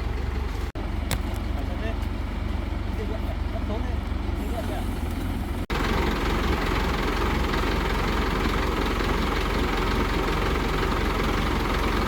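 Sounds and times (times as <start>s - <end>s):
crane engine idling: 0.0s - 12.0s.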